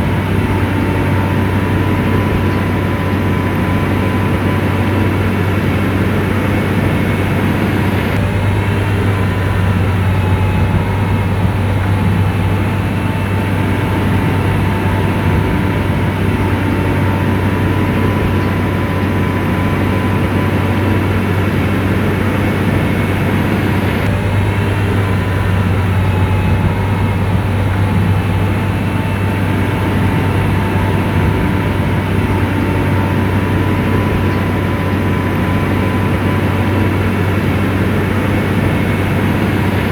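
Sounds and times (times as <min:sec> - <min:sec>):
faint whine: 0:00.0 - 0:39.9
heavy diesel engine running: 0:00.0 - 0:39.9.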